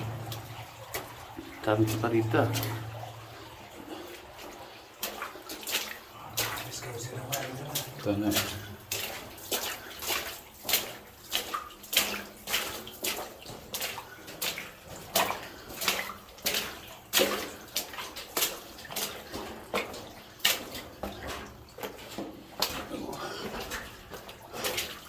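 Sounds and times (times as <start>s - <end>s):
footsteps splashing in water: 0.0s - 25.0s.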